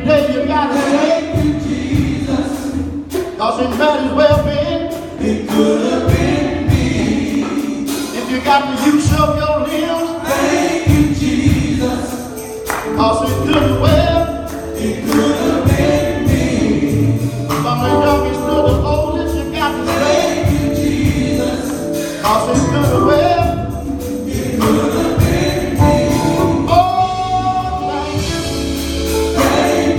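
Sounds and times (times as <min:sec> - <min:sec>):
band playing: 0:00.0 - 0:29.9
gospel choir singing: 0:00.0 - 0:29.9
percussion strikes: 0:00.7 - 0:29.9.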